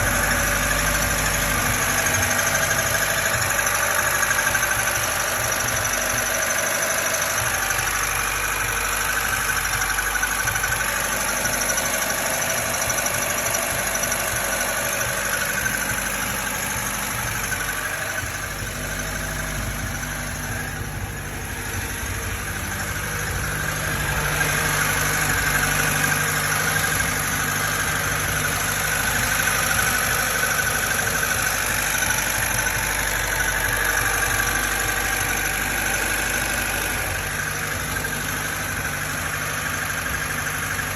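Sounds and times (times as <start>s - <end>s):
car engine running: 0.0s - 40.9s
extraneous engine noise: 0.0s - 40.9s.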